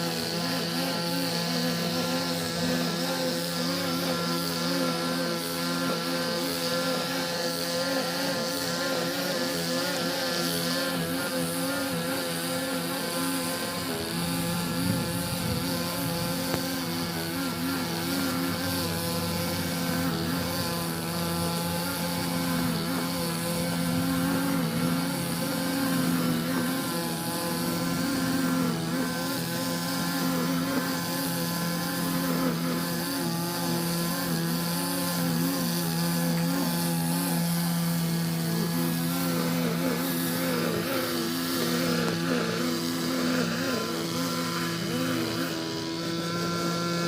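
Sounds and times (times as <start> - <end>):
lawn mower engine running: 0.0 - 47.0.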